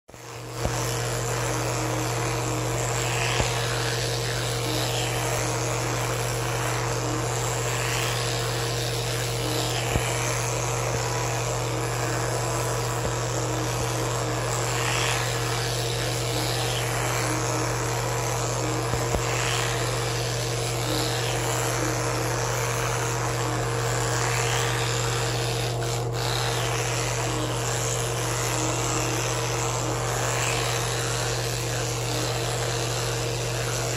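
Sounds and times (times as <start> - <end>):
electric toothbrush humming: 0.0 - 33.9.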